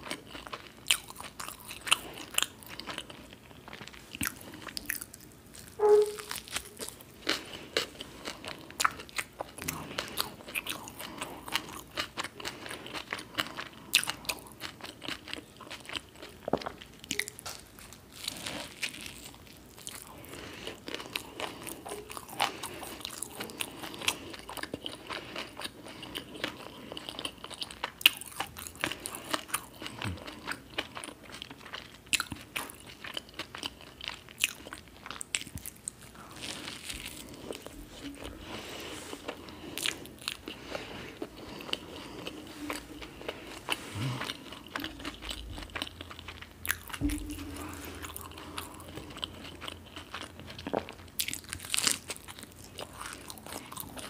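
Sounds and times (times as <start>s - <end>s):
crunchy toasted sandwich chewing: 0.0s - 54.0s.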